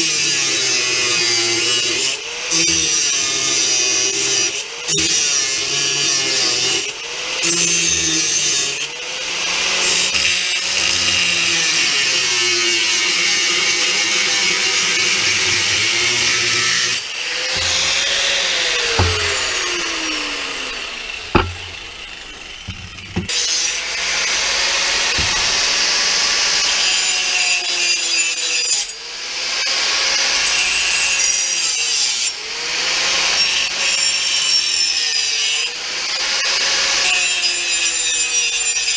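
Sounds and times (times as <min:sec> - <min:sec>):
power tool grinding steel: 0:00.0 - 0:38.9.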